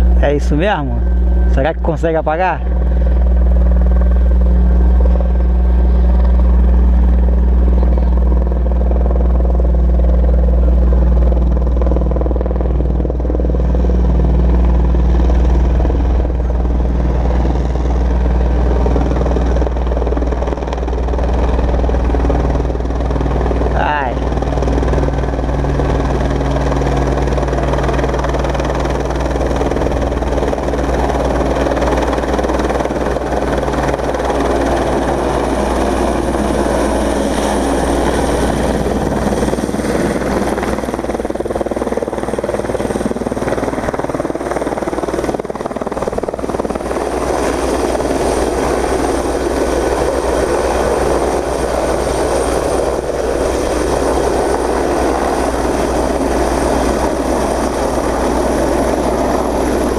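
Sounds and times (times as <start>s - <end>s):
helicopter engine noise: 0.0s - 59.9s
helicopter rotor drone: 0.0s - 59.9s.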